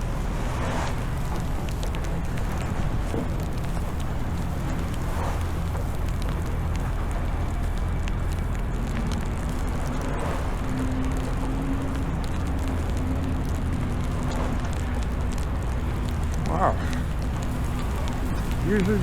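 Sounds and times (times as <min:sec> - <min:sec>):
city traffic rumble: 0:00.0 - 0:19.0
faint steady hum: 0:00.0 - 0:19.0.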